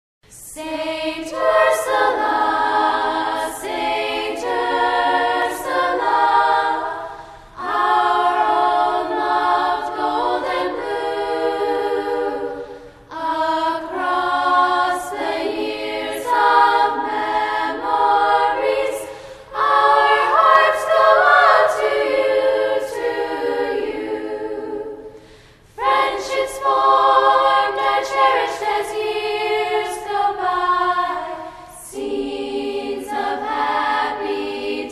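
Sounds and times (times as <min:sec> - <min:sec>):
choir singing unaccompanied: 0:00.4 - 0:34.9.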